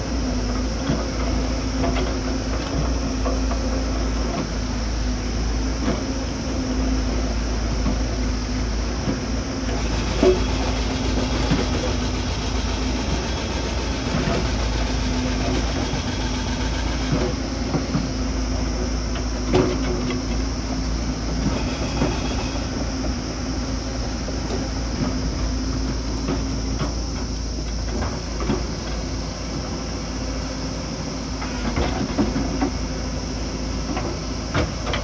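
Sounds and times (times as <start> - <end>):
earthmoving machine engine: 6.4 - 35.0.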